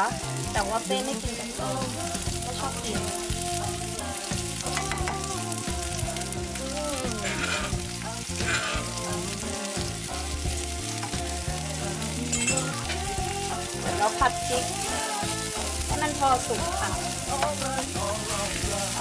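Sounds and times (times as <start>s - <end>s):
chilies sizzling in hot oil: 0.0s - 19.0s.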